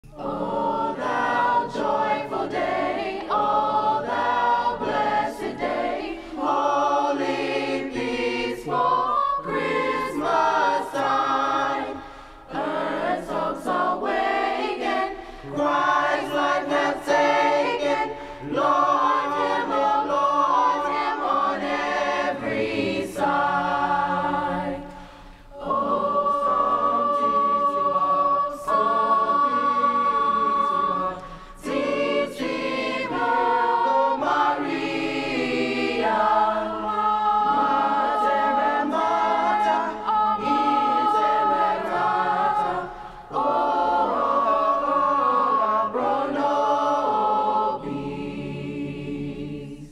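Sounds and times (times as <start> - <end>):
choir singing a carol: 0.0 - 49.9.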